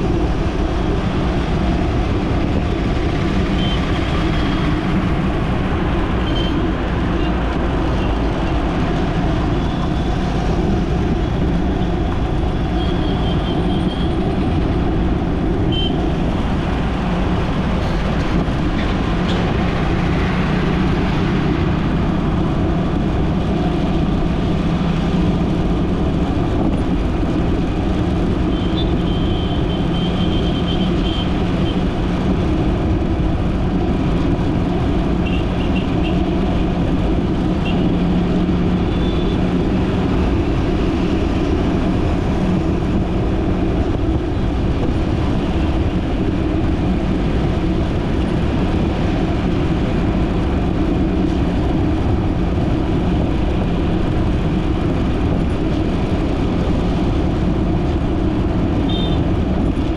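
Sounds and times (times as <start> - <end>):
car driving on road: 0.0 - 59.9.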